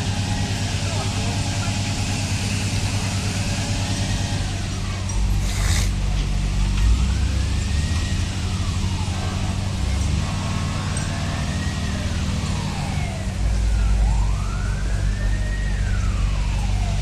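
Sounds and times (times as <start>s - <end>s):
emergency vehicle siren wailing: 0.0s - 5.4s, 6.0s - 17.0s
engine hum: 0.0s - 17.0s.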